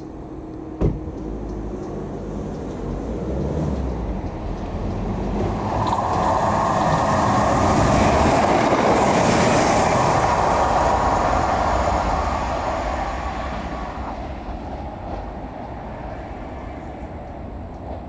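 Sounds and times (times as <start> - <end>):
train rushing past: 0.0 - 18.0.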